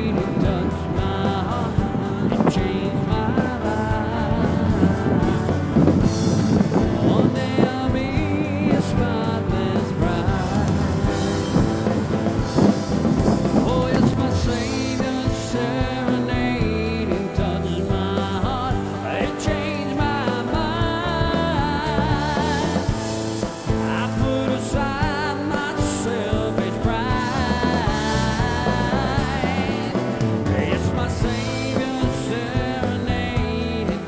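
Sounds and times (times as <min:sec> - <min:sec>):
rock song with drums: 0:00.0 - 0:34.0.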